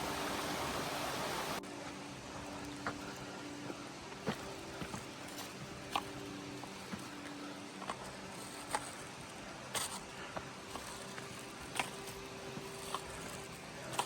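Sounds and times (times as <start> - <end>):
outdoor hiss: 0.0 - 14.0
footsteps on rocky trail: 1.6 - 14.0.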